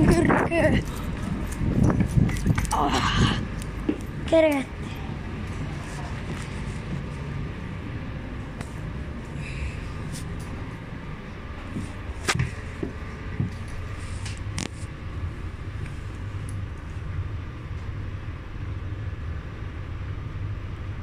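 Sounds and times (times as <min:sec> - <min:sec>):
metro train rumble: 0:00.0 - 0:21.0.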